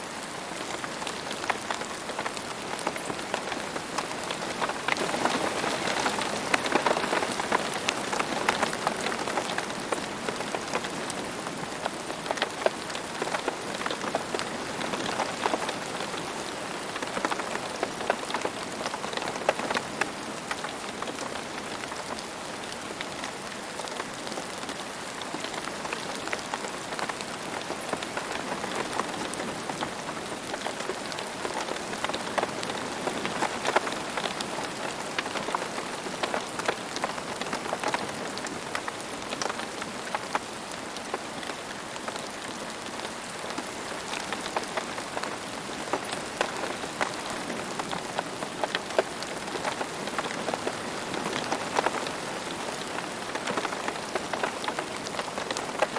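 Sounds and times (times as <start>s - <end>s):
rain drops ticking on hard surface: 0.0s - 55.9s.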